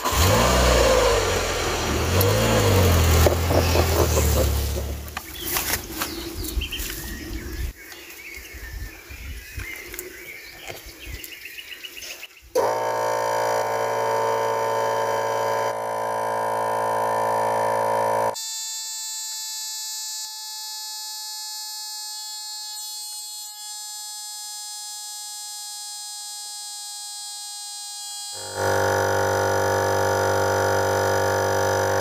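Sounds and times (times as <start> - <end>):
tyre inflator buzzing hum: 0.0 - 6.2, 12.5 - 32.0.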